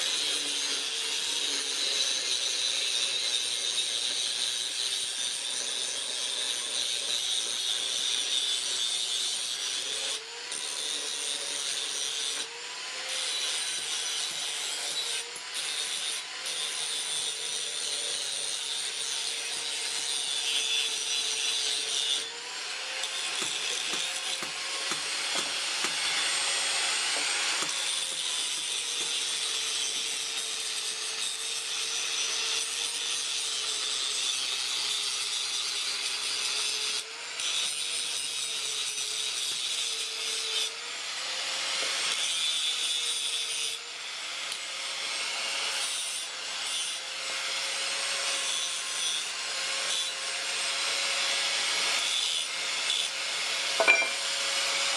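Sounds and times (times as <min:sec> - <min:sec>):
power tool rasping on steel: 0:00.0 - 0:40.8, 0:41.4 - 0:54.9.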